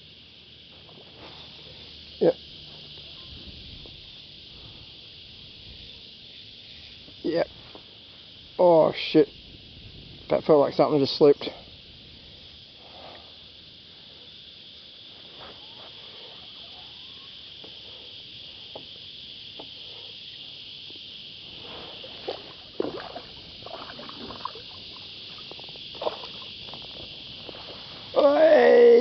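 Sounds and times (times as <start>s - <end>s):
cicadas chorus: 0.0s - 29.0s.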